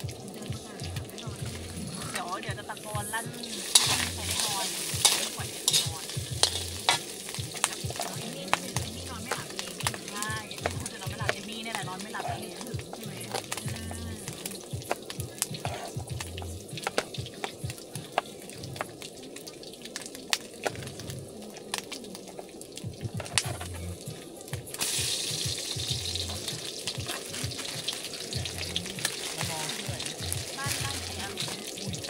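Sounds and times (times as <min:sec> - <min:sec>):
background music with bass: 0:00.0 - 0:18.9, 0:22.9 - 0:32.0
frying sizzle: 0:00.0 - 0:32.0.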